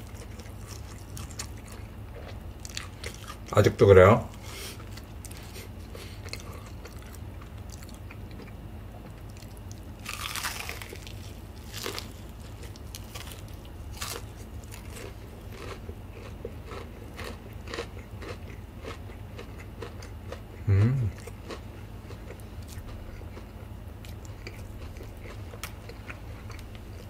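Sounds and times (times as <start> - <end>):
crunching fried chicken: 0.0 - 27.0.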